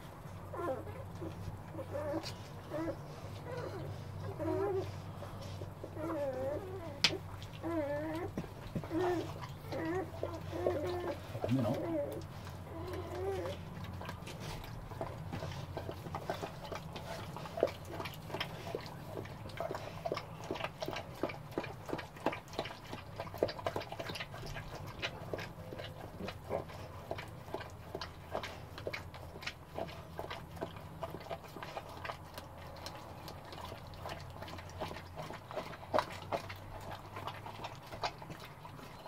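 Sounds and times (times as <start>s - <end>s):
dog licking puppy: 0.0s - 39.0s.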